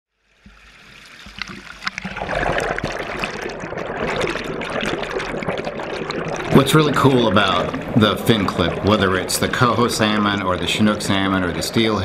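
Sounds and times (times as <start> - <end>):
water trickling and splashing: 0.2 - 12.0
small splashes and drips: 0.4 - 10.8.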